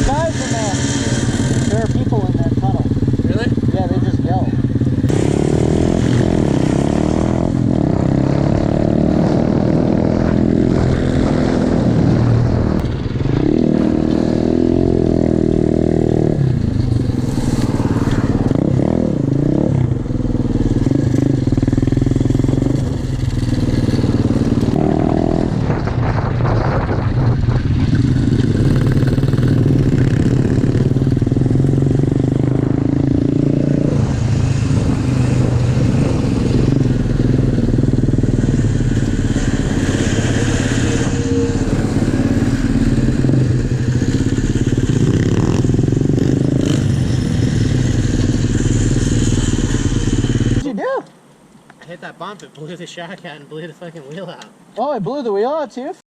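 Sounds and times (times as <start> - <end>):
pit bike engine revving: 0.0 - 50.7.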